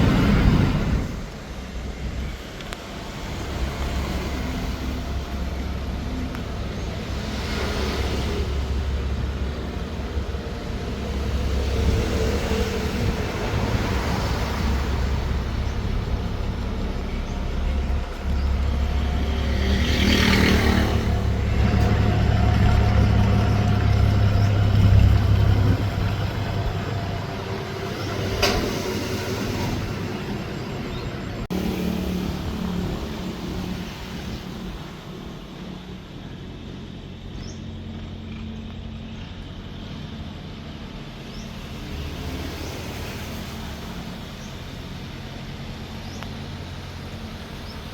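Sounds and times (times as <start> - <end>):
boat engine rumbling: 0.0 - 47.9.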